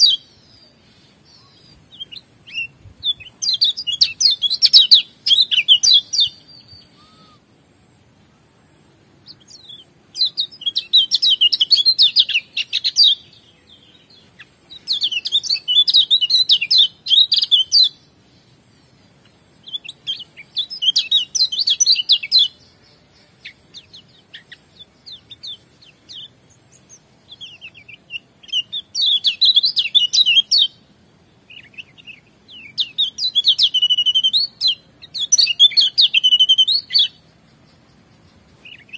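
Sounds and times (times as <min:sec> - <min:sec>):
bird singing rapid song: 0:00.0 - 0:38.9.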